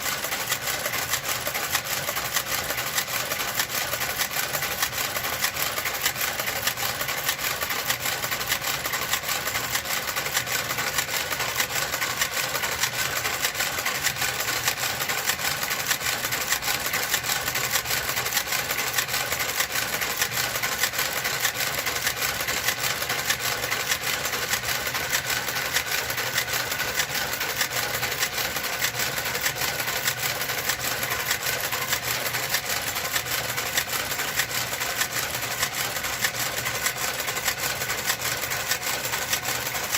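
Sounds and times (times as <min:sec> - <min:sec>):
knitting machine clicking: 0:00.0 - 0:39.9
knitting machine hum: 0:00.0 - 0:39.9.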